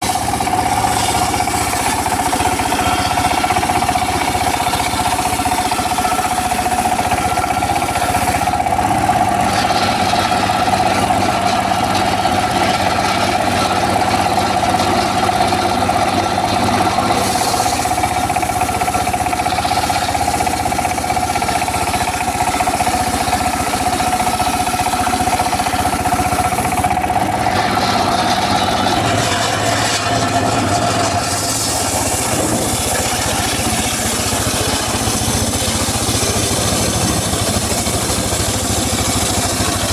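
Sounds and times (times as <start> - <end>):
circular saw whining: 0.0 - 39.9.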